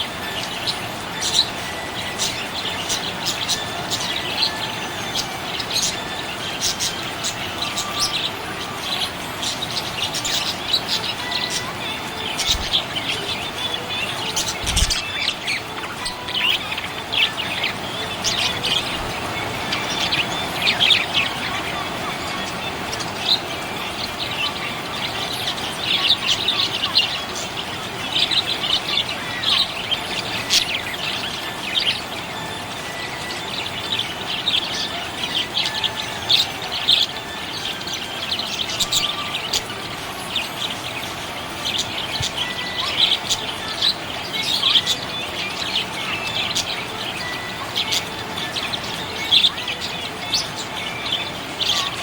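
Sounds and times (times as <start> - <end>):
budgerigar chirping and chattering: 0.0 - 52.0.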